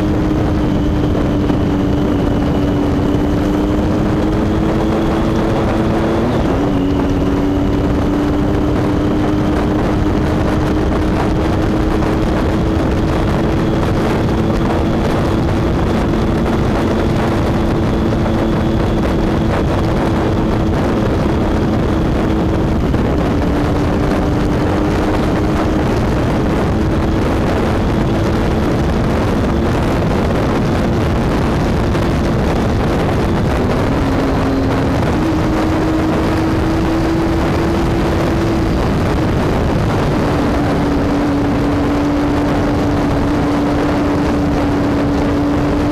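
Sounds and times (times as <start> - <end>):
motorcycle engine accelerating: 0.0 - 45.9
wind rush on microphone: 0.0 - 45.9.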